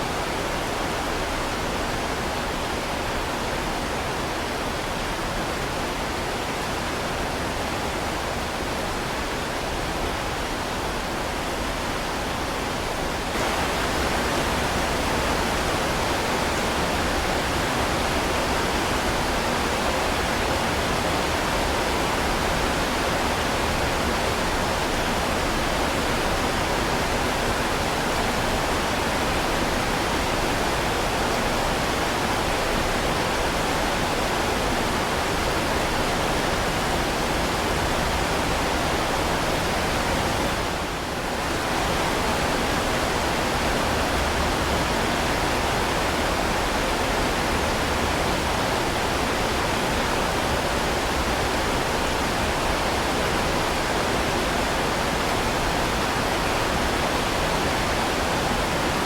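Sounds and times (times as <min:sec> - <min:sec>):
heavy rain falling: 0:10.7 - 0:59.0.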